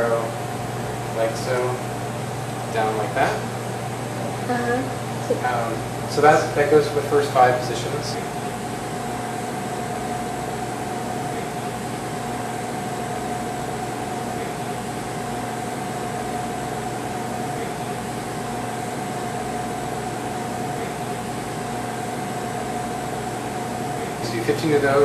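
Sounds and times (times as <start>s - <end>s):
background hum and hiss: 0.0s - 25.0s.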